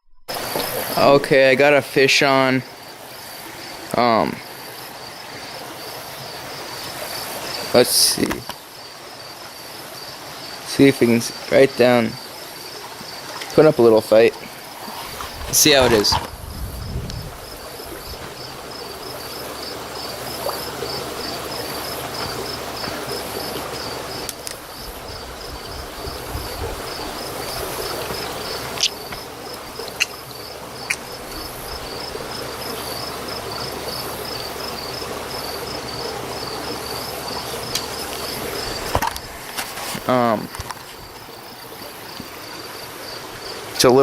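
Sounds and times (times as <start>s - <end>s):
insect chirping: 0.0s - 44.0s.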